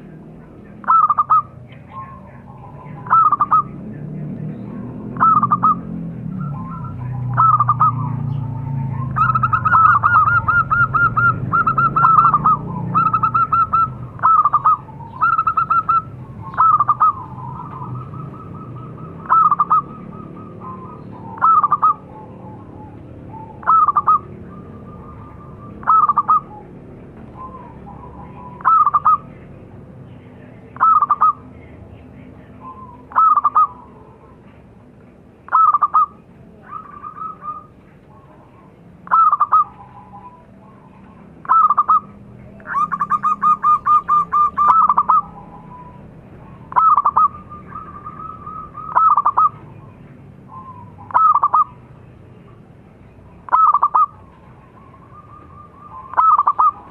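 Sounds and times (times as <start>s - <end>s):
dove cooing: 0.0s - 29.8s, 30.4s - 31.6s, 32.2s - 34.8s, 35.5s - 52.7s, 53.3s - 56.9s.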